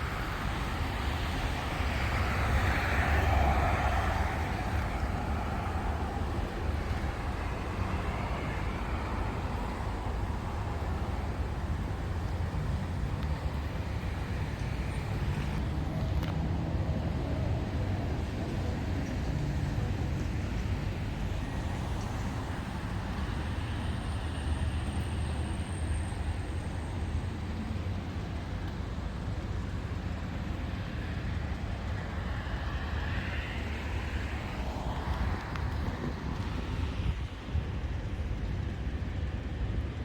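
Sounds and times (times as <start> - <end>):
highway traffic rumble: 0.0 - 40.0.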